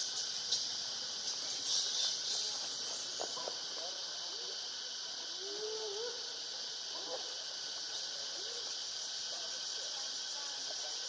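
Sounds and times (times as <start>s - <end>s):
faint wavering insect calls: 0.0s - 11.0s
high-pitched insect drone: 0.0s - 11.0s.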